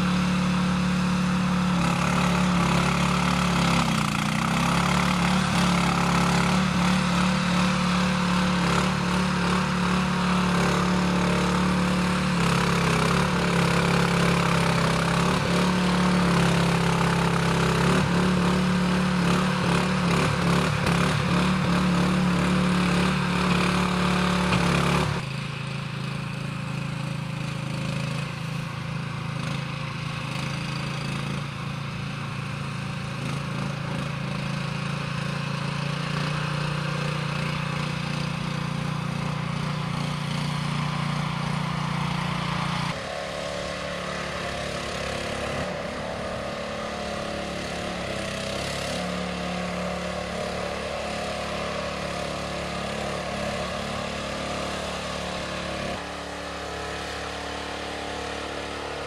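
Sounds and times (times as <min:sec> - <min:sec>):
mini dumper engine running: 0:00.0 - 0:59.0.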